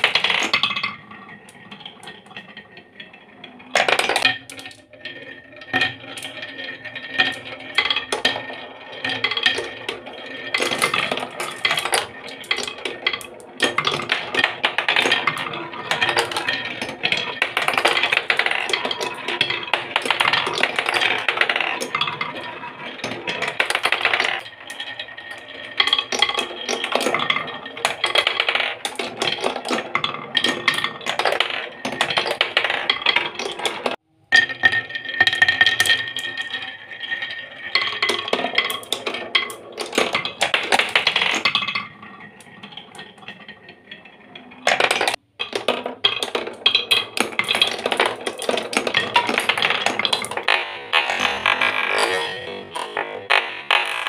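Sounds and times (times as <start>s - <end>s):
marbles clattering on wooden track: 0.0s - 54.0s.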